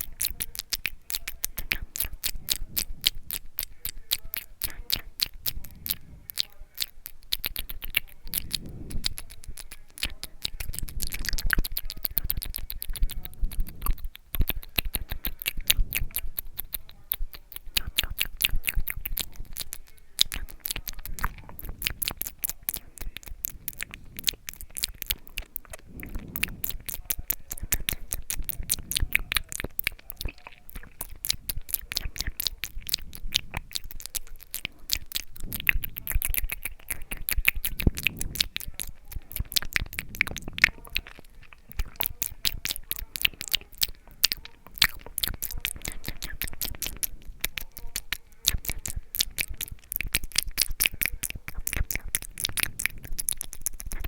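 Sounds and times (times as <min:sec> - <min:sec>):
wet mouth clicks and smacks: 0:00.0 - 0:54.0.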